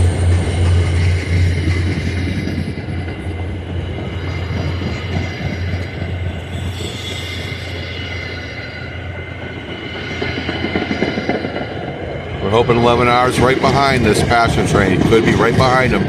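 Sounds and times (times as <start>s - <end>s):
high-pitched wheel squeal: 0.0s - 14.0s
locomotive engine hum: 0.0s - 16.0s
wheels on rails: 0.0s - 16.0s.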